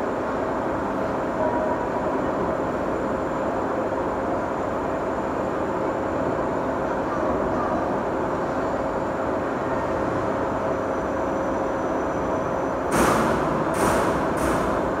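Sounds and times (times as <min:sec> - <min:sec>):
machine shop hum: 0:00.0 - 0:15.0.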